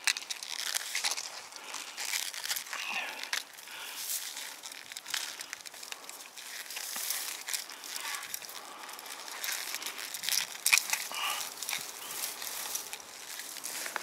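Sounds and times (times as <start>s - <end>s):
close rustling and crackling: 0.0s - 14.0s.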